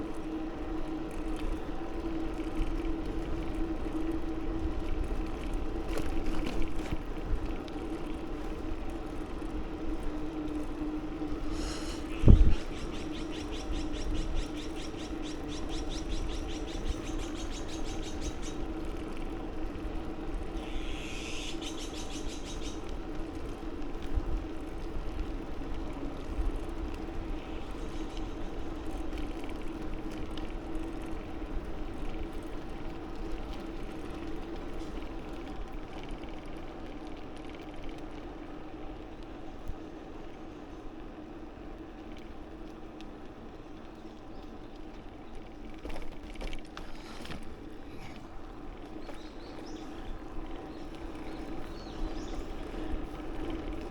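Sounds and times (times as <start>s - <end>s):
bicycle hum and wind rumble: 0.0s - 53.9s.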